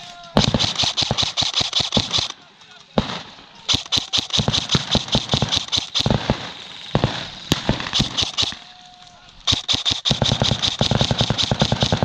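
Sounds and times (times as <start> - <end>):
airsoft guns firing: 0.0 - 8.8, 9.4 - 12.0.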